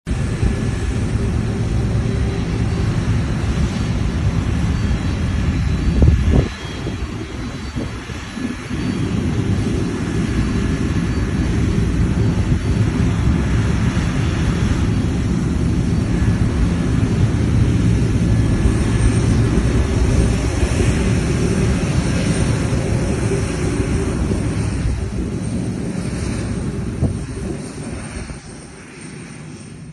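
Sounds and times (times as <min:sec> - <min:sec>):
jet engines rumbling: 0:00.0 - 0:29.9.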